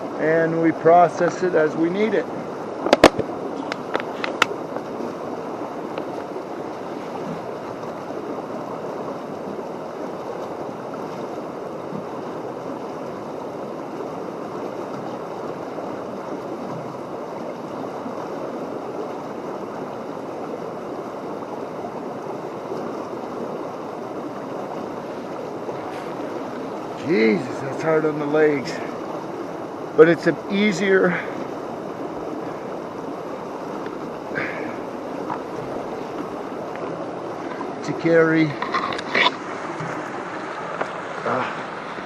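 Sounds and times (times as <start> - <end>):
brook water running: 0.0 - 42.0.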